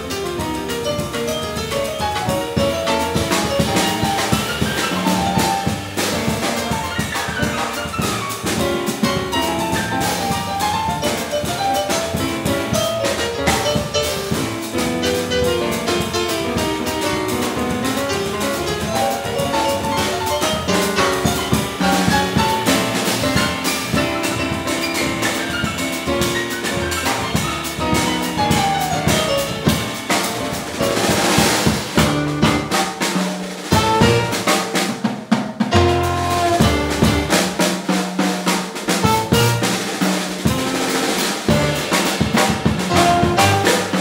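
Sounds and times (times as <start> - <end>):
piano lines: 0.0 - 35.0, 35.6 - 44.0
drum kit cymbals: 0.0 - 44.0.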